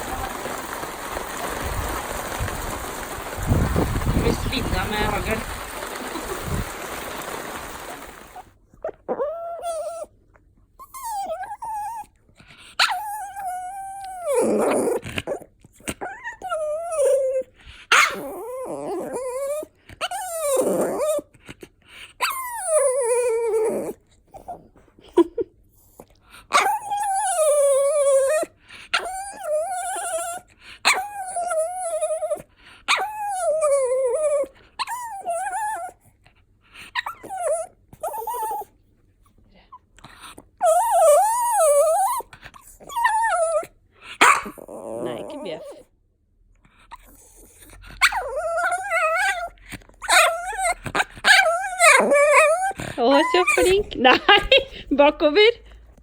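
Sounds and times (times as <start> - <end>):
dog whining and whimpering: 3.7 - 10.2, 10.8 - 21.3, 22.2 - 36.1, 36.7 - 38.8, 39.7 - 45.9, 46.7 - 55.7.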